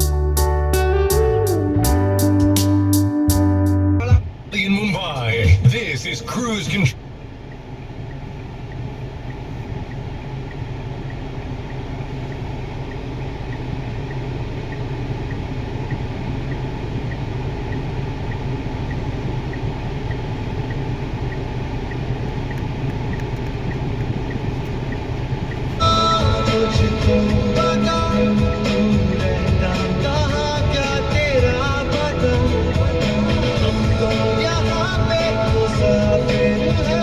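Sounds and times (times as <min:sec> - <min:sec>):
diesel engine rumbling: 0:00.0 - 0:37.0
faint regular ticking: 0:05.7 - 0:37.0.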